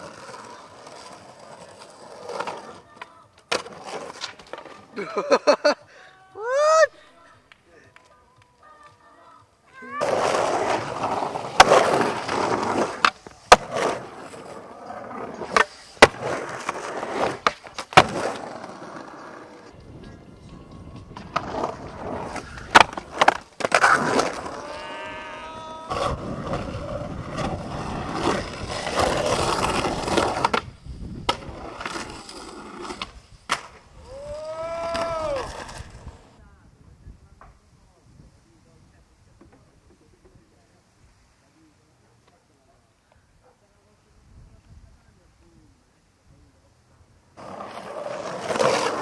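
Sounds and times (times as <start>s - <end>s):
skateboard wheels rolling on concrete: 0.0s - 49.0s.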